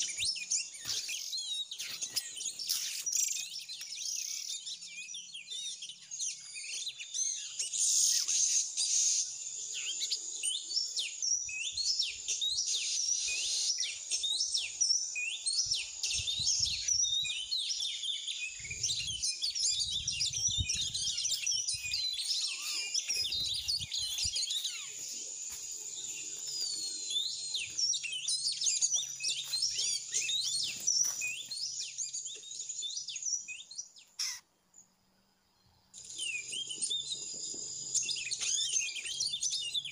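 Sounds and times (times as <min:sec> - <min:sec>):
songbird chirps and whistles: 0:00.0 - 0:34.5, 0:35.8 - 0:39.9.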